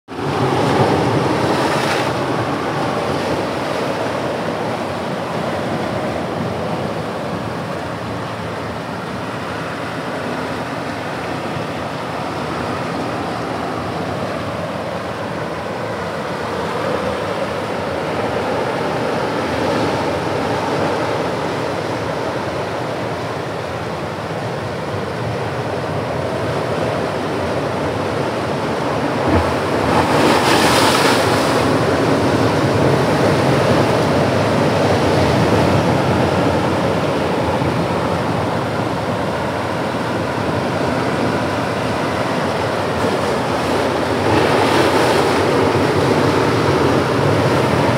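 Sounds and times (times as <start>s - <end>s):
ocean surf rushing over rocks: 0.1s - 47.9s.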